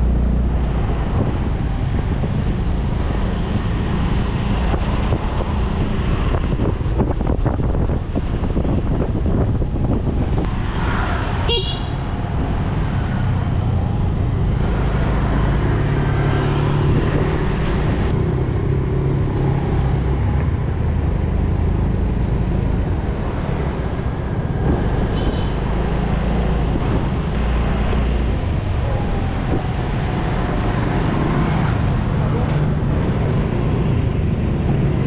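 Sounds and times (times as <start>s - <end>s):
motorbike traffic engines: 0.0s - 35.0s
road noise: 0.0s - 35.0s.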